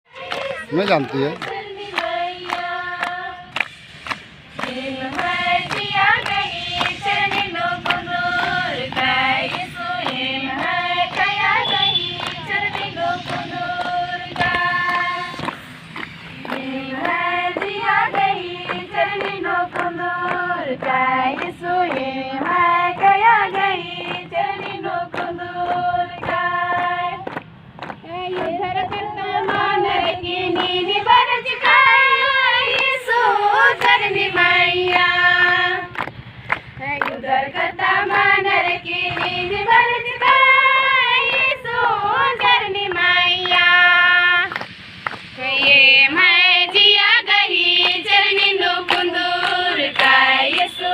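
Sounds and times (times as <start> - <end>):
group singing a devotional song: 0.1 - 50.9
hand claps: 0.1 - 50.9.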